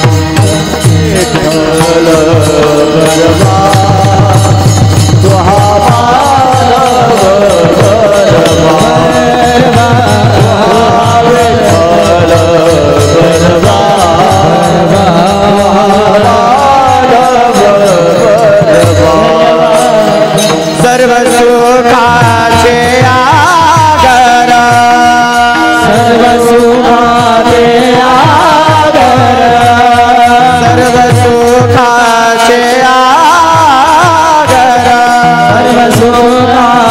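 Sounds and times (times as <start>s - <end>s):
hand drum beat: 0.0s - 36.9s
man singing devotional melody: 0.0s - 36.9s.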